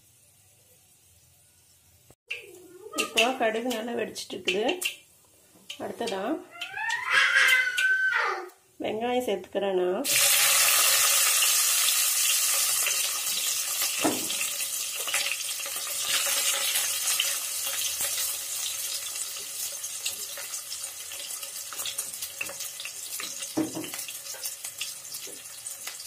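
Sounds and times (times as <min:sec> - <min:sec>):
onions sizzling in hot oil: 0:00.0 - 0:07.0, 0:10.0 - 0:26.0.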